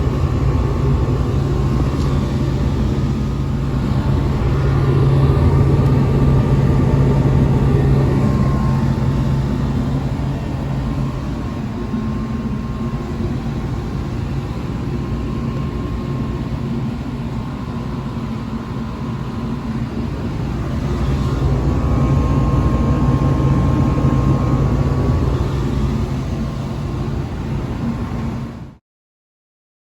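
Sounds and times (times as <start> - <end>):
air conditioner humming: 0.0 - 28.8
faint high whine: 0.0 - 28.8.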